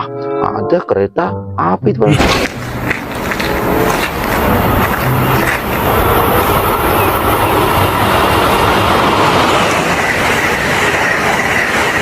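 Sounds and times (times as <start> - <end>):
train wheels rumbling on rails: 2.2 - 12.0.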